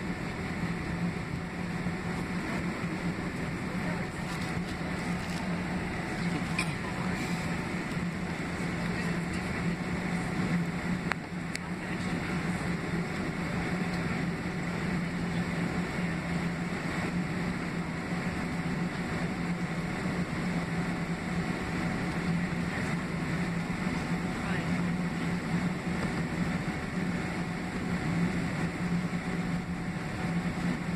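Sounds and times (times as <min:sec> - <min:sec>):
aircraft cabin rumble and hiss: 0:00.0 - 0:30.9
steady low hum: 0:00.0 - 0:30.9.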